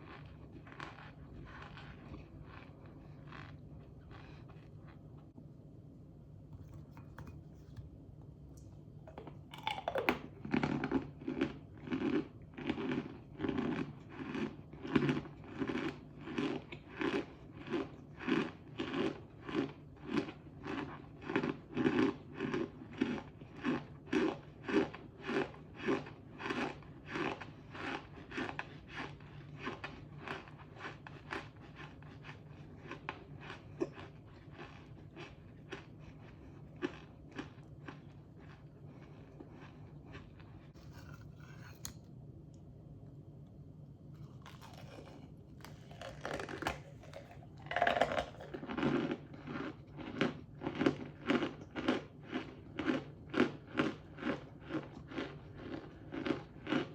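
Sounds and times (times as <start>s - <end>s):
person crunching food: 0.0s - 5.3s, 8.6s - 42.1s, 44.1s - 56.9s.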